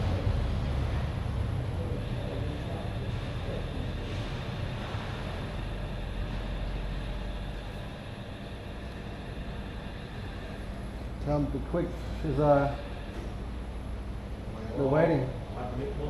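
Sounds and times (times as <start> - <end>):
engine rumble with hiss: 0.0 - 16.0.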